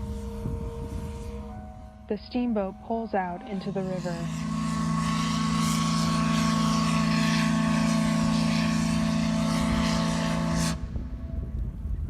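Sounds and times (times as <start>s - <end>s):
steam whistle blast: 0.0s - 2.2s, 2.9s - 11.0s.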